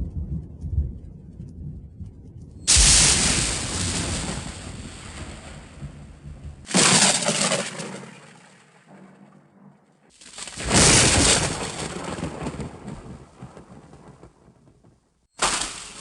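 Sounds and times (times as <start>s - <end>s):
thunderclaps rumbling: 0.0s - 16.0s.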